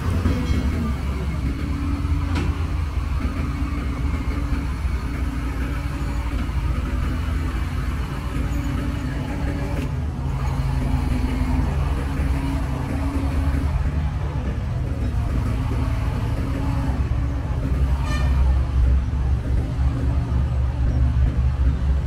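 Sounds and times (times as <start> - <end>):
diesel engine rumbling: 0.0 - 22.0
passing road traffic: 0.0 - 22.0.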